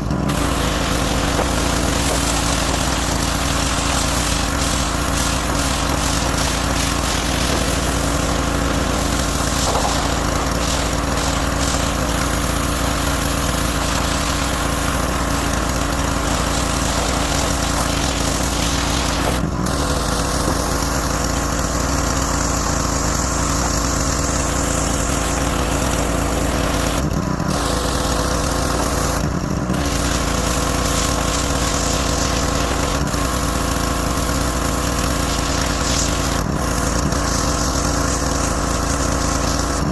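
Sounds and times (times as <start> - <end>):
hissing water spray: 0.0 - 39.9
pressure washer engine running: 0.0 - 39.9.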